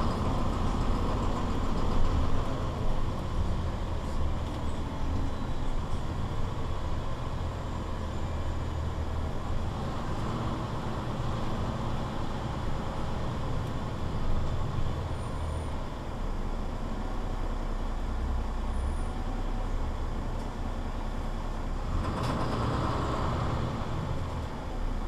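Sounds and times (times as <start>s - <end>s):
bus diesel engine: 0.0s - 25.0s
road noise: 0.0s - 25.0s.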